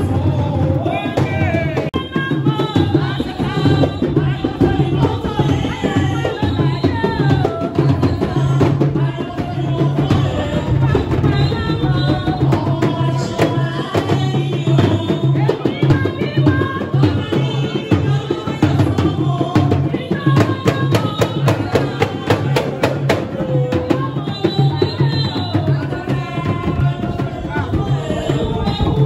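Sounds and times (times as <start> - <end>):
woman singing through a microphone: 0.0 - 29.0.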